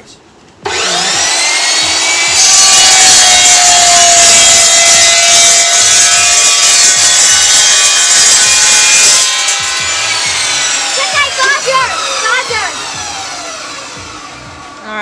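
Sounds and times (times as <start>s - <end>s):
cold saw cutting metal: 0.6s - 15.0s.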